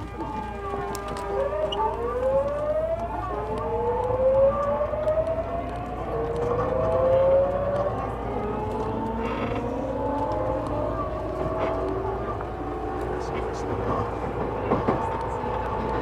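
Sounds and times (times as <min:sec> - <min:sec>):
electric train motors whining: 0:00.0 - 0:16.0
low train running rumble: 0:00.0 - 0:16.0.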